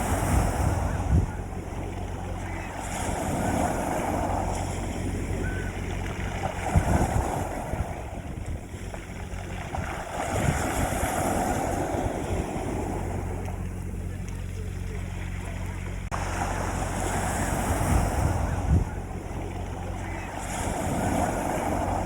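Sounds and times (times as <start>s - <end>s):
low rumble: 0.0s - 22.0s
sea waves washing onto beach: 0.0s - 22.0s.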